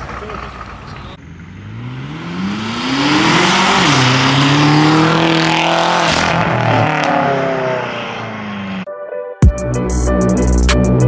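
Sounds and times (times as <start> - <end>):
car engine accelerating hard: 0.0 - 8.9.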